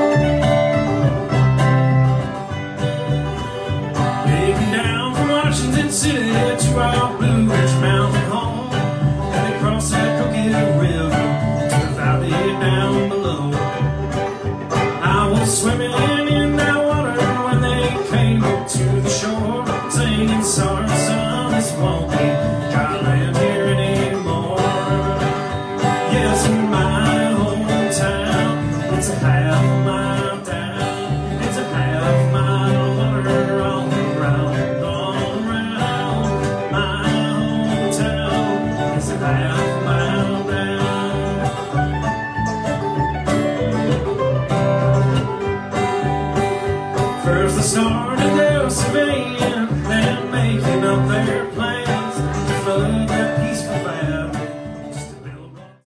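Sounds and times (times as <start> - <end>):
country tune with plucked guitar: 0.0 - 55.9.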